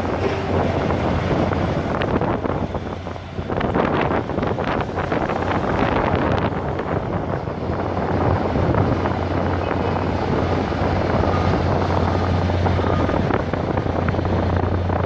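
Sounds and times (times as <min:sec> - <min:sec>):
engine humming: 0:00.0 - 0:15.0
wind noise on microphone: 0:00.0 - 0:15.0.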